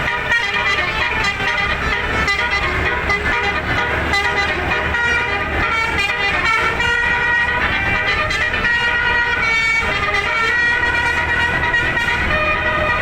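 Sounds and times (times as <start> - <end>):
musical air horn playing a tune: 0.0 - 13.0.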